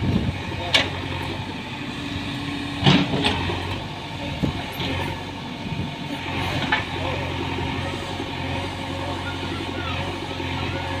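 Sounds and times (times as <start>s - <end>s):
backhoe digging soil: 0.0s - 11.0s
diesel engine running: 0.0s - 11.0s.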